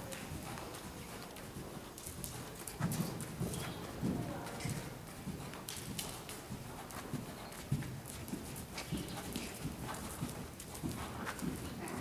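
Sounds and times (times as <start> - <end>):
horse hooves thudding on sand: 0.0 - 12.0.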